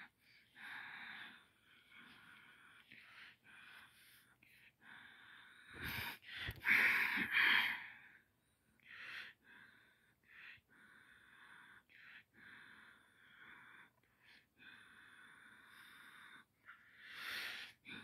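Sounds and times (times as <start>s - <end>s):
breathing close to microphone: 0.0s - 8.2s, 8.8s - 18.0s.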